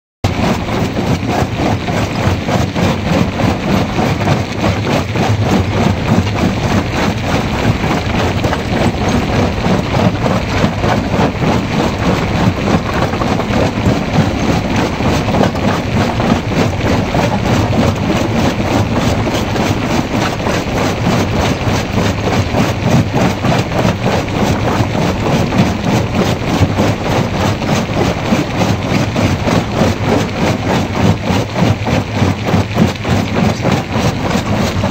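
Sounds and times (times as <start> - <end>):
jaw crusher crushing rock: 0.3 - 34.9.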